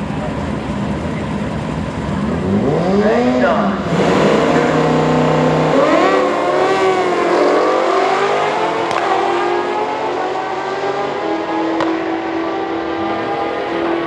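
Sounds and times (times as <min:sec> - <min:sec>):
drag-racing engine revving: 0:00.0 - 0:14.0.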